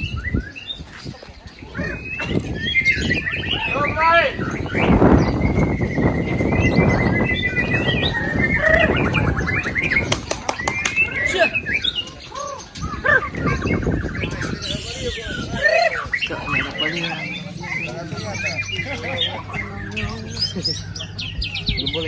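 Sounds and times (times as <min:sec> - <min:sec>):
birds singing whistled phrases: 0:00.0 - 0:22.0.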